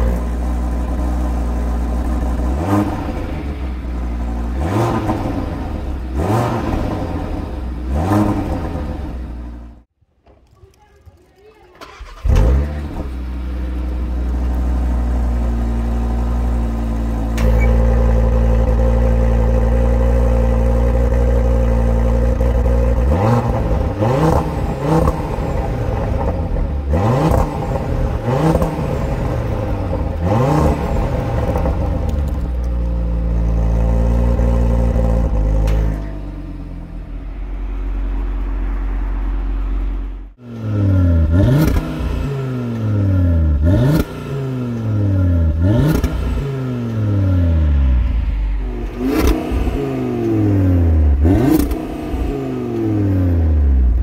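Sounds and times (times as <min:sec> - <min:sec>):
car engine idling and revving: 0:00.0 - 0:09.9, 0:11.8 - 0:54.0.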